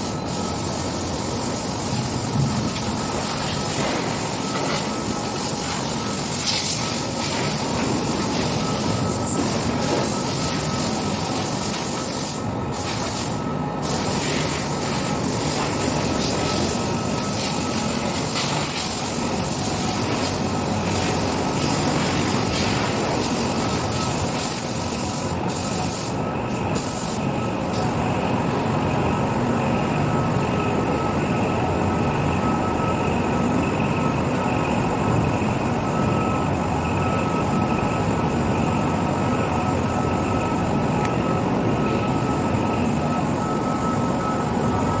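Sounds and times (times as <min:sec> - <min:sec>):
faint high whine: 0:00.0 - 0:45.0.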